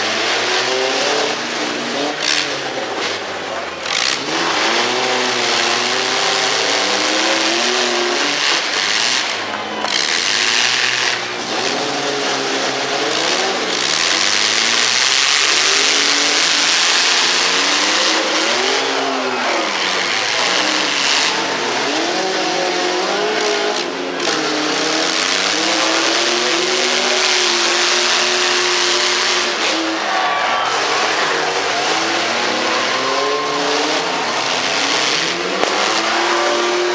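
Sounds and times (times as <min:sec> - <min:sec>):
truck engines revving: 0:00.0 - 0:36.9.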